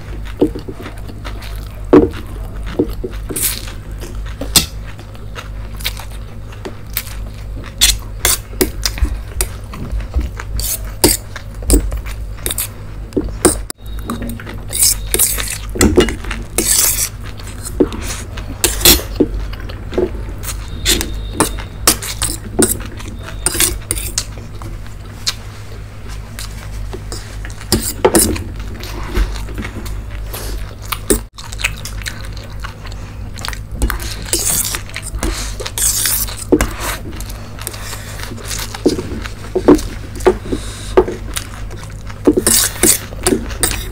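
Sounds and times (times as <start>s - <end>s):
chewing: 0.0s - 43.9s
steady low hum: 0.0s - 43.9s.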